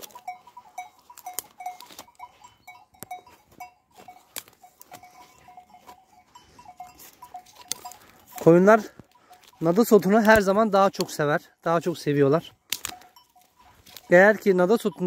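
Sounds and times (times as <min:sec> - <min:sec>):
sheep bells clanking: 0:00.0 - 0:15.0.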